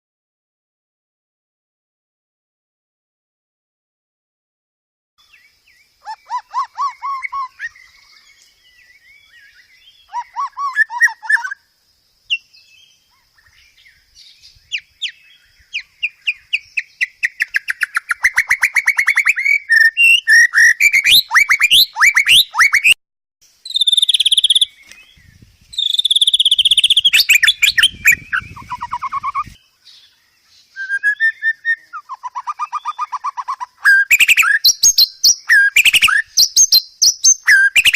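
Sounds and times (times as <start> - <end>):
bird singing varied song: 5.2 - 37.9.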